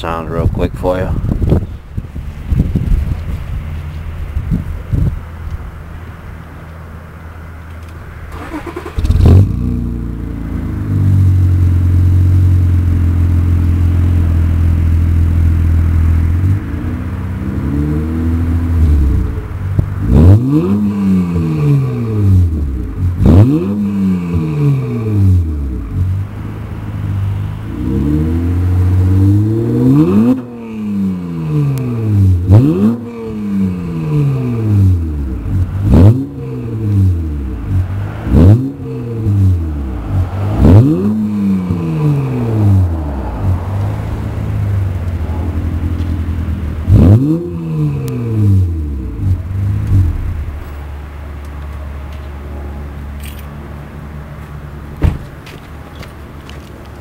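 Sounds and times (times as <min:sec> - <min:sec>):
car engine revving: 0:02.0 - 0:50.8.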